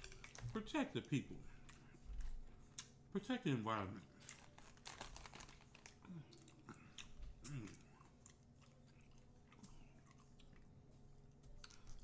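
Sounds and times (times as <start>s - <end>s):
chewing and wet mouth sounds: 0.0s - 3.0s, 4.1s - 12.0s.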